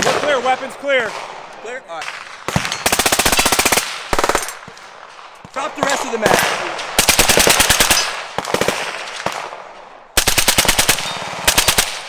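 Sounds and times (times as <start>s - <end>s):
rifle firing rapid bursts: 2.0s - 12.0s.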